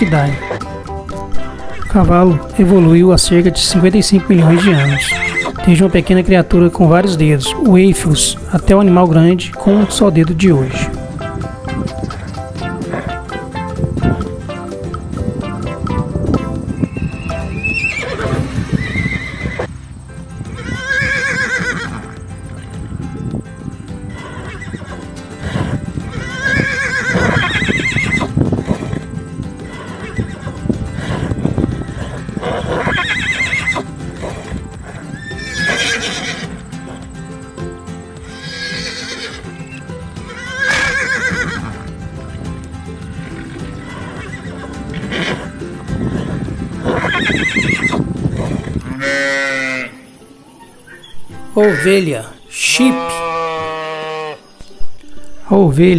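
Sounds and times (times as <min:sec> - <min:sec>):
horses neighing: 0:00.0 - 0:54.7
background music: 0:00.0 - 0:55.9.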